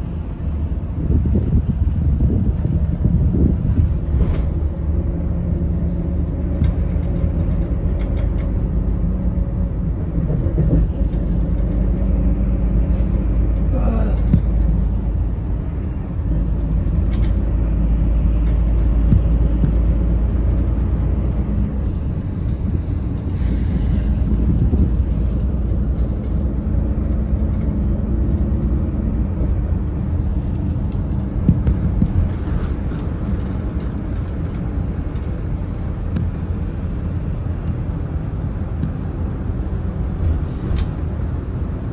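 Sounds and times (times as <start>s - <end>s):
bus diesel engine droning: 0.0s - 41.9s.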